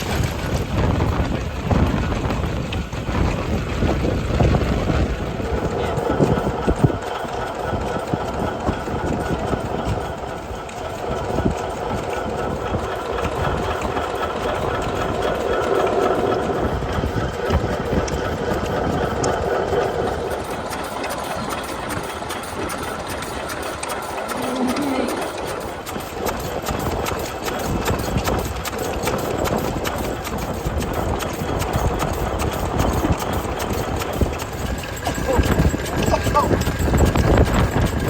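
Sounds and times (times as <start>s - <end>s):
stationary engines clattering: 0.0s - 38.0s.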